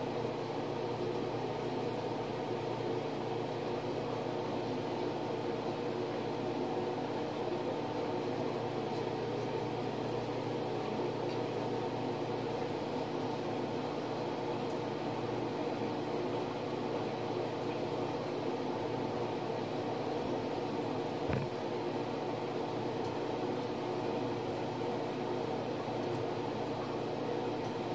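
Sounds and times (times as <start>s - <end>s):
steady mechanical hum: 0.0s - 27.9s.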